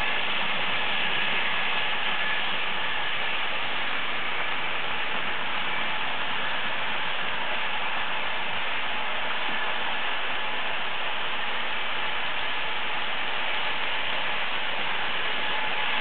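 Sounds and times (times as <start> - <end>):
faint steady whine: 0.0 - 16.0
model trains whirring on track: 0.0 - 16.0.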